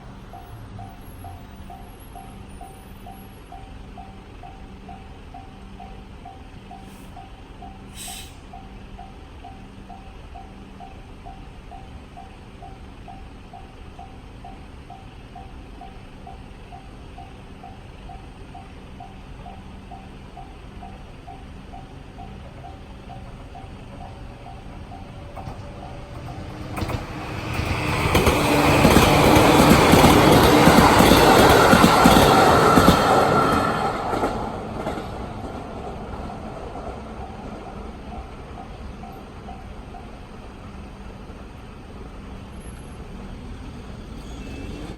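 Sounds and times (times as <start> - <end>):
approaching train rail noise: 0.0 - 9.4, 12.9 - 44.9
level crossing warning bell: 0.0 - 44.9.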